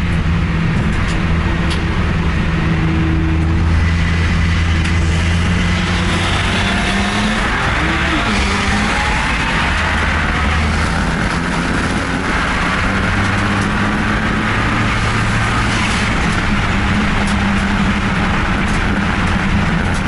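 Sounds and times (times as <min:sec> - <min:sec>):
car engines running: 0:00.0 - 0:20.0
loud rushing noise: 0:00.0 - 0:20.0.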